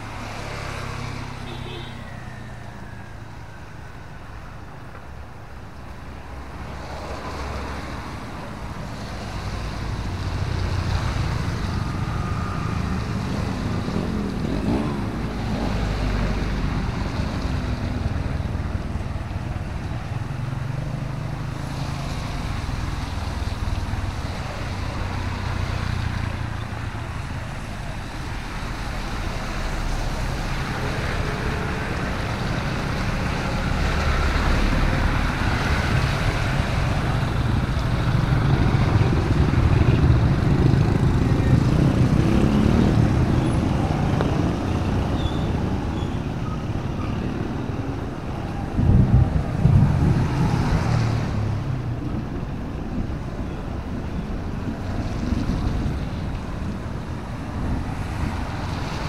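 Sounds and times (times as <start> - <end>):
traffic on wet street: 0.0 - 59.0
truck passing: 0.0 - 59.0
motorbikes passing: 6.4 - 59.0.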